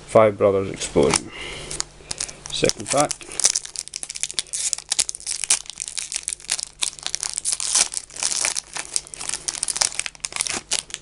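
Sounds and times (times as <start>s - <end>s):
wrapper crinkling and tearing: 1.0s - 11.0s.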